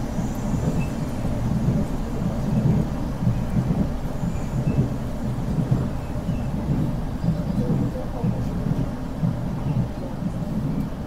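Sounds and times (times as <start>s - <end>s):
vehicle cabin rumble: 0.0s - 11.0s.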